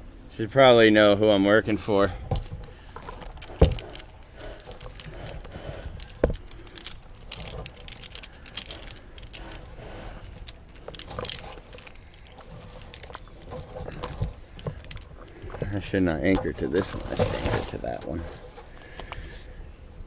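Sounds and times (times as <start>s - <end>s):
metal climbing hardware clinking: 1.8s - 19.3s
rope rustling: 1.8s - 19.5s.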